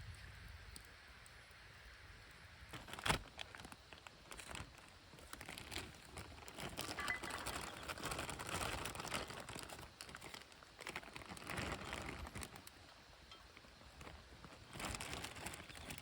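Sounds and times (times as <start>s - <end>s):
rustling and crinkling: 2.7s - 16.0s.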